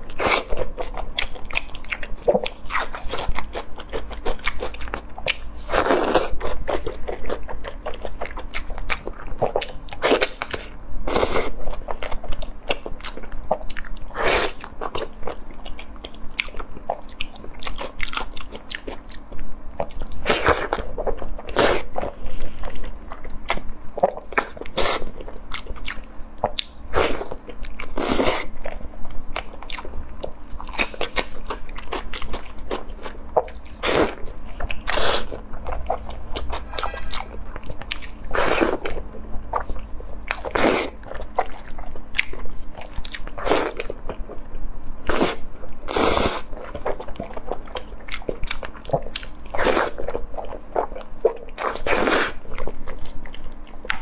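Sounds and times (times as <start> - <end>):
close biting and chewing: 0.0 - 54.0.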